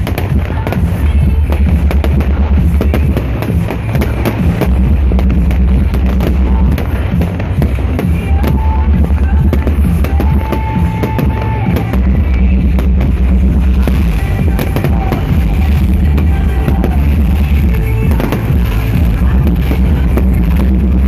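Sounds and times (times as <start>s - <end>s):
firework bangs and crackles: 0.0s - 21.0s
loud music with drums and bass: 0.0s - 21.0s.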